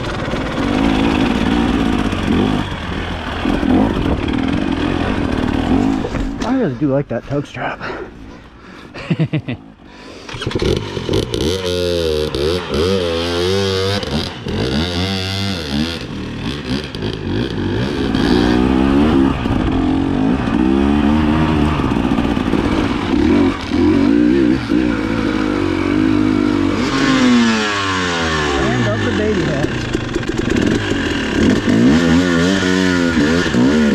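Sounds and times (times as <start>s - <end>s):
dirt bike engine revving: 0.0s - 6.7s, 9.4s - 33.9s.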